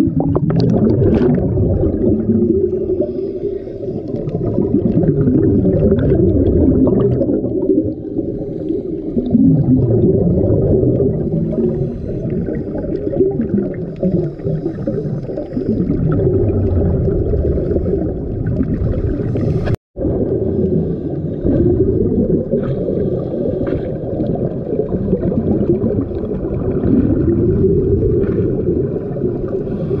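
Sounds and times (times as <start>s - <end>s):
underwater exhaled bubbles: 0.0s - 30.0s
water gurgling: 0.0s - 30.0s.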